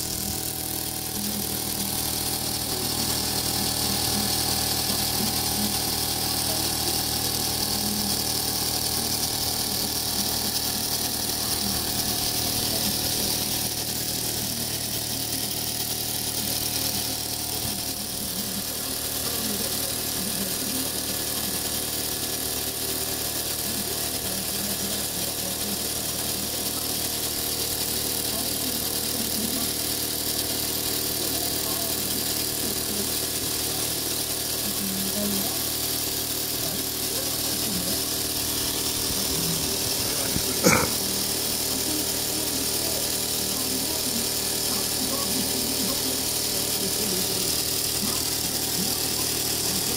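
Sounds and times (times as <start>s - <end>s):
toy steam engine running: 0.0s - 49.9s
whir of spinning pulleys: 0.0s - 49.9s.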